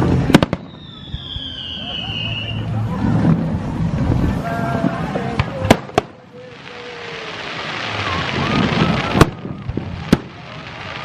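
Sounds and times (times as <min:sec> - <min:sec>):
crowd voices: 0:00.0 - 0:11.0
firework hiss: 0:00.0 - 0:11.0
fireworks bangs: 0:00.0 - 0:11.0.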